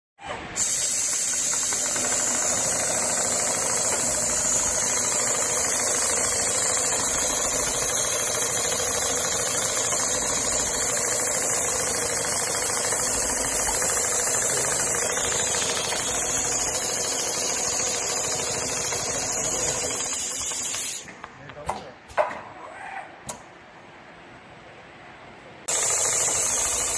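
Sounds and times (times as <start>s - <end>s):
sewing machine stitching leather: 0.2s - 21.0s, 25.7s - 26.9s.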